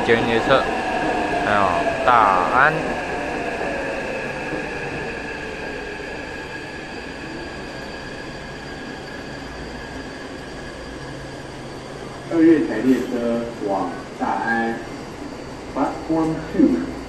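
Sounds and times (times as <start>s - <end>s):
train high-pitched whine: 0.0s - 17.0s
train wheels rolling rumble: 0.0s - 17.0s.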